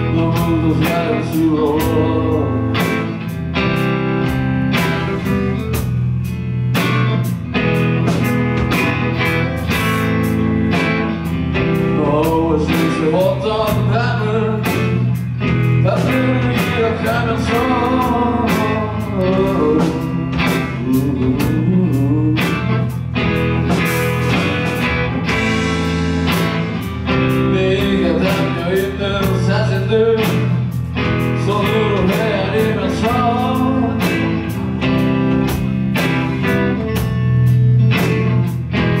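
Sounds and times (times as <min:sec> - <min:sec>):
rock band playing live: 0:00.0 - 0:39.0
wavering lead guitar line: 0:00.0 - 0:39.0.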